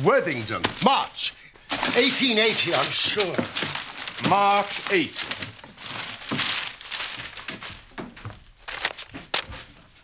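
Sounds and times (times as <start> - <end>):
paper pages rustling: 1.6 - 10.0.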